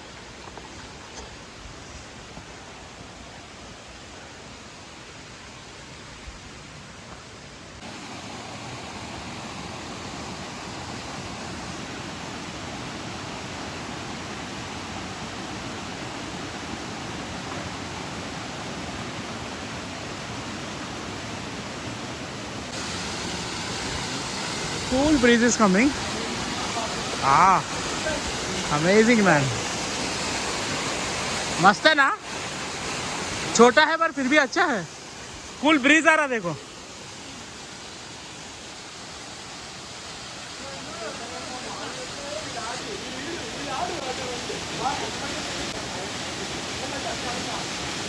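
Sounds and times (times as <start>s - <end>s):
waterfall splashing: 7.8s - 48.0s.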